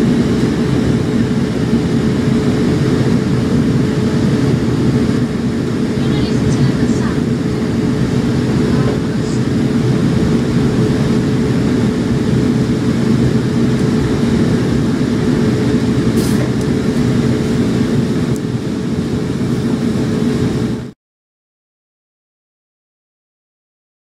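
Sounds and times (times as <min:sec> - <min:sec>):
train running noise rumble: 0:00.0 - 0:20.9.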